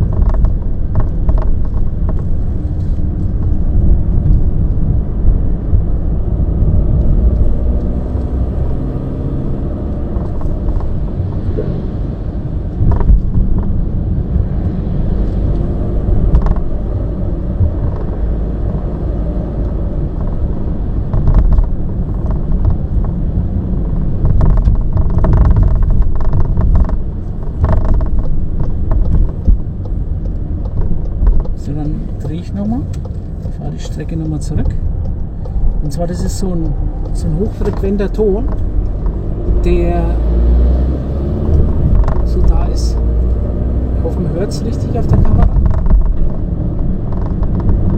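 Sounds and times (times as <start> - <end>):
tyres rumbling on rough road: 0.0 - 47.9.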